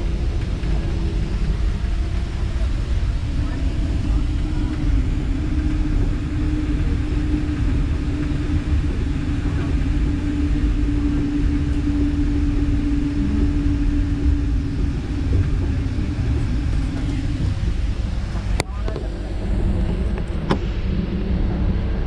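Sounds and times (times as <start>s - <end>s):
electric train hum: 0.0s - 22.0s
train wheels rumbling: 0.0s - 22.0s.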